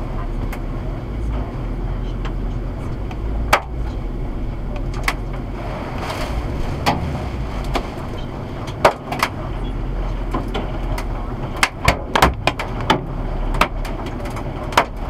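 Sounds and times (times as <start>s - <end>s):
rain rumble and hiss: 0.0s - 15.0s.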